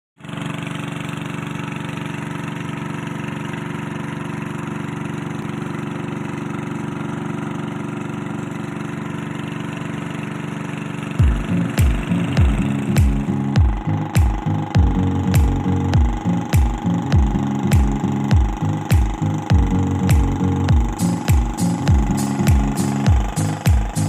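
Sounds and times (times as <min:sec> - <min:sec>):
boat motor running steadily: 0:00.2 - 0:24.0.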